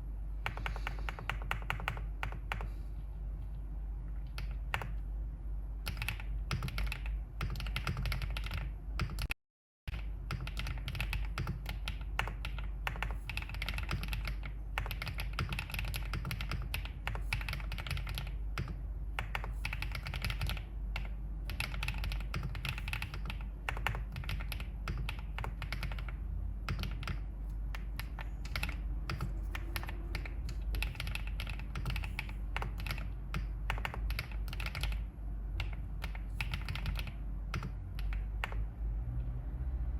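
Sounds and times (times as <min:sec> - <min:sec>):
low steady hum: 0:00.0 - 0:09.3, 0:09.9 - 0:39.9
mechanical keyboard typing: 0:00.4 - 0:02.7, 0:04.2 - 0:05.0, 0:05.8 - 0:38.7.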